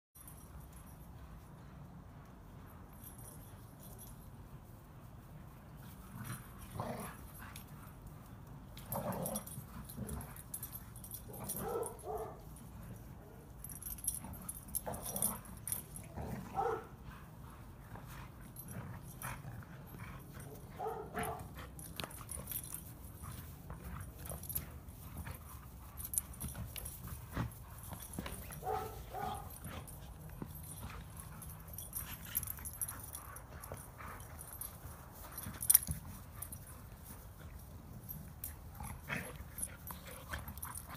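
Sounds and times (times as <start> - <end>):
dogs scuffling: 3.0 - 40.9.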